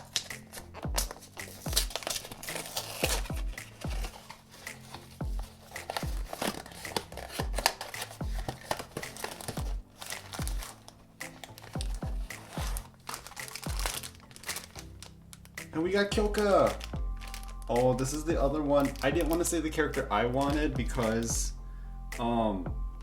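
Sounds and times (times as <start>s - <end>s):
packaging crinkling and tearing: 0.0s - 19.5s
background music with steady beat: 0.0s - 23.0s.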